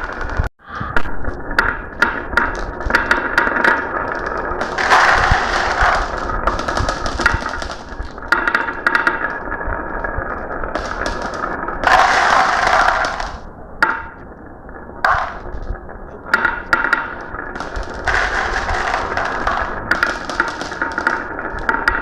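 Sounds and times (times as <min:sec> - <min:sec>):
marbles rolling down a track: 0:00.0 - 0:00.5, 0:01.4 - 0:14.2, 0:15.0 - 0:15.7, 0:16.3 - 0:22.0.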